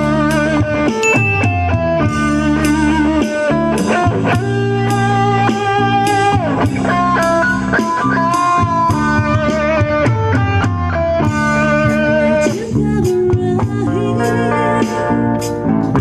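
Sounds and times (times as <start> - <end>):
guitar melody with bends: 0.0 - 16.0
live band playing: 0.0 - 16.0.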